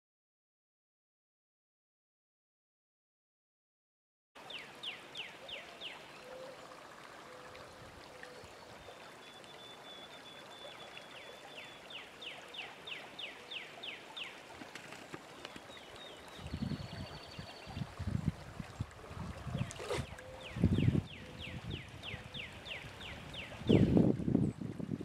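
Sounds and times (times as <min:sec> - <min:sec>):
creek water running: 0:04.4 - 0:25.0.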